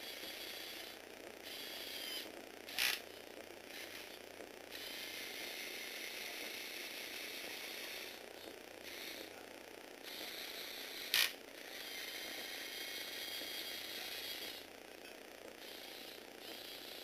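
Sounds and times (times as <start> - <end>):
small electric motor whirring: 0.0 - 9.4, 10.0 - 14.7, 15.6 - 17.0.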